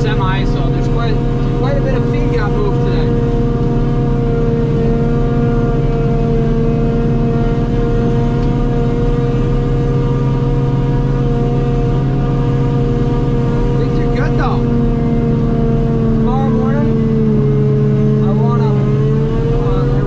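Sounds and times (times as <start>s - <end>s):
engine drone: 0.0s - 20.0s
harvester cutterhead whine: 0.0s - 20.0s.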